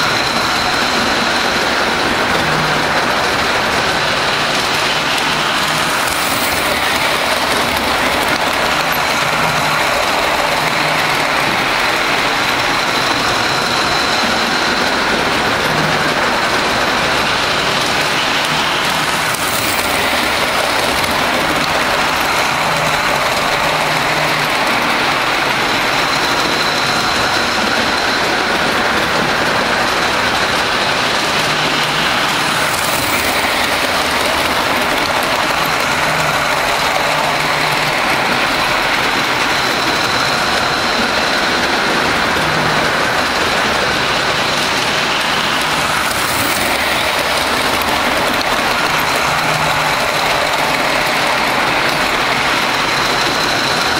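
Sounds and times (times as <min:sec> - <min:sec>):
model train rolling on track: 0:00.0 - 0:53.9.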